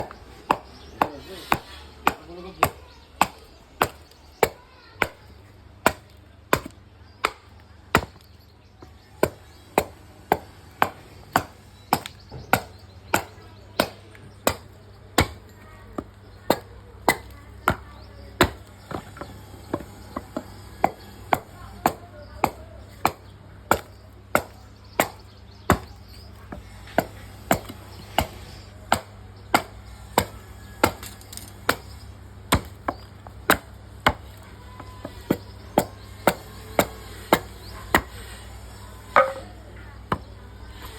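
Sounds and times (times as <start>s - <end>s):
blade chopping into wood: 0.0s - 5.3s, 9.0s - 40.9s.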